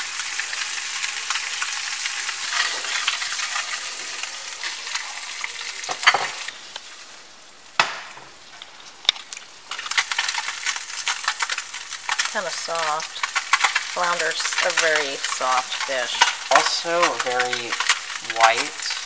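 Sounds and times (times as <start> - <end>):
fish sizzling in a pan: 0.0 - 19.0.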